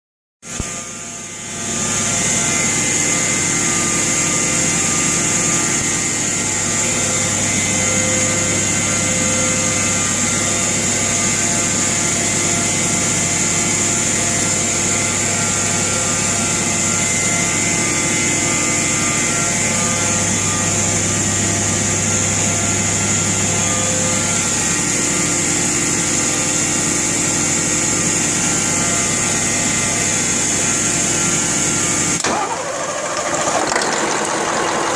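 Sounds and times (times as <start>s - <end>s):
high-pitched whine: 0.5s - 32.6s
diesel engine running: 1.6s - 34.9s.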